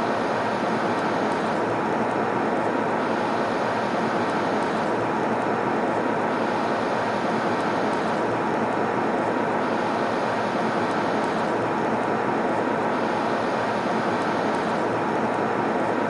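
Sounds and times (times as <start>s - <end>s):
aircraft cabin engine roar: 0.0s - 16.0s
faint hum: 0.0s - 16.0s.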